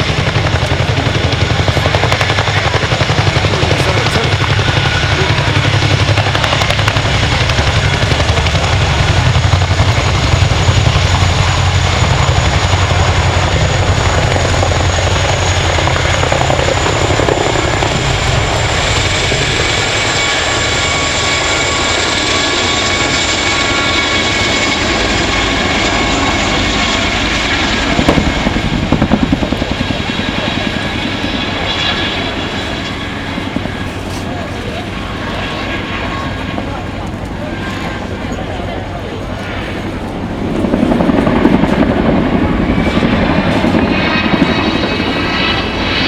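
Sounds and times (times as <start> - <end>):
helicopter rotor beat: 0.0 - 46.0
high engine whine: 0.0 - 46.0.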